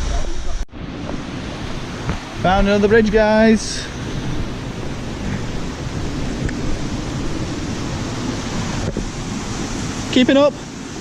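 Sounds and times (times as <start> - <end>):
river water rushing over rapids: 0.8 - 11.0.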